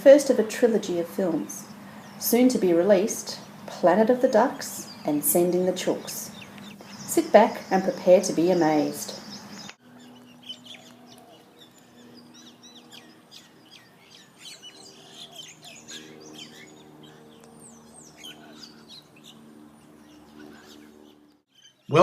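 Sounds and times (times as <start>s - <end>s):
small birds chirping: 0.2s - 22.0s.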